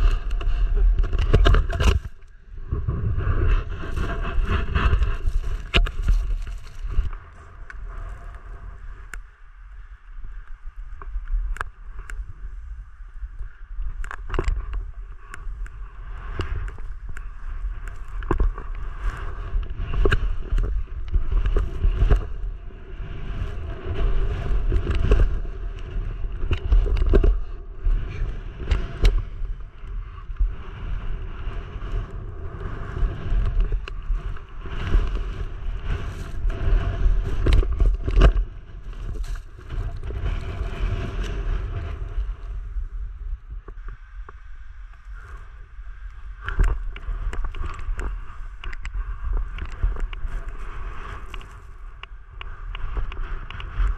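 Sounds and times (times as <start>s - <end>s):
skis scraping on snow: 0.0s - 9.1s, 14.6s - 43.2s, 44.0s - 53.9s
ski clicks and knocks: 0.0s - 9.2s, 13.4s - 30.5s, 31.7s - 42.6s, 46.4s - 53.9s
wind buffeting microphone: 0.0s - 53.9s.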